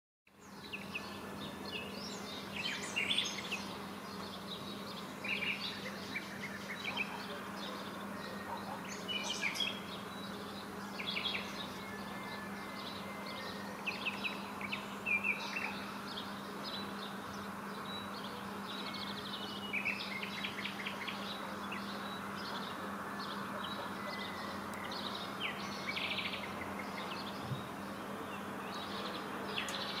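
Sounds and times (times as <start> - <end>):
birds chirping and singing: 0.4 - 30.0.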